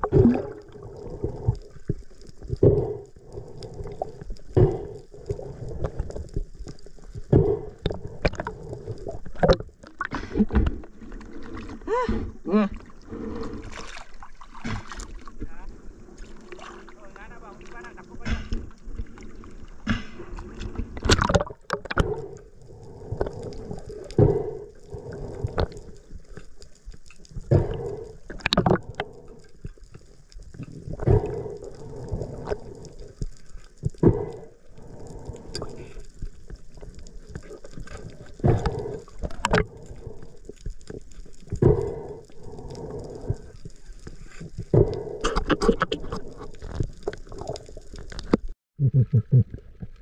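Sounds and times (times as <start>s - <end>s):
water sloshing and gurgling: 0.0s - 48.6s.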